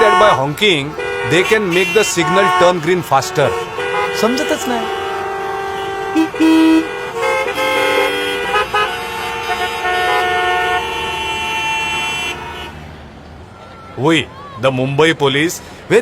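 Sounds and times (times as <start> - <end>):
car horns honking: 0.0 - 16.0.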